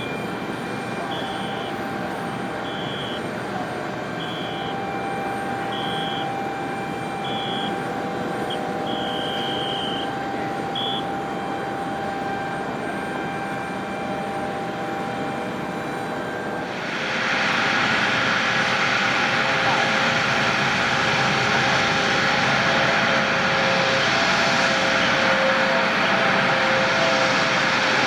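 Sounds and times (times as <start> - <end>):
jet aircraft whine: 0.0 - 28.0.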